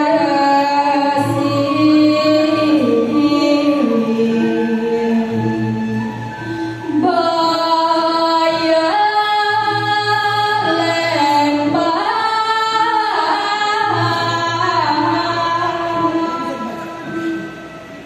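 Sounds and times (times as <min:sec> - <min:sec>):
woman singing long held notes: 0:00.0 - 0:17.5.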